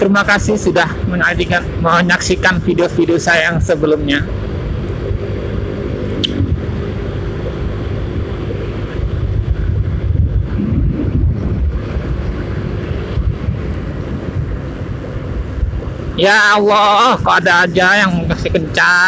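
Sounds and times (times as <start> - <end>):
motorcycle engine humming: 0.0 - 19.0
wind buffeting microphone: 0.0 - 19.0.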